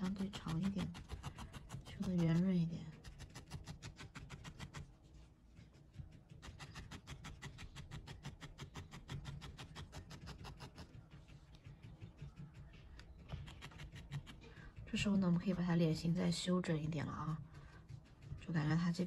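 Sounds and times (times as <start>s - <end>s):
felting needle poking wool: 0.0s - 19.0s.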